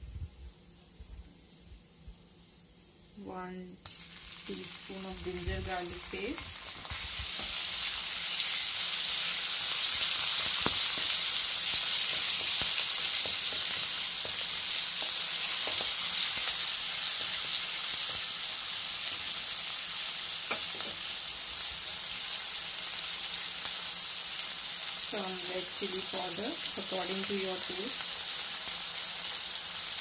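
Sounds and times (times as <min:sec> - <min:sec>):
paste sizzling in hot oil: 0:03.8 - 0:30.0.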